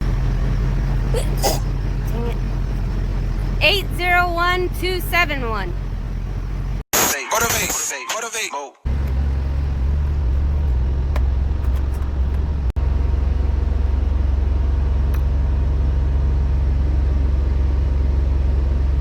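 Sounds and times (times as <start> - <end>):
diesel truck engine rumbling: 0.0 - 6.9, 8.9 - 19.0.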